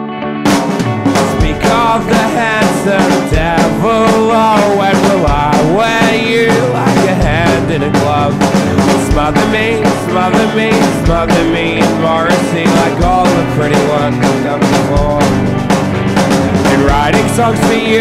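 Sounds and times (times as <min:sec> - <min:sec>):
lead guitar line bending pitch: 0:00.0 - 0:18.0
punk rock band playing: 0:00.0 - 0:18.0.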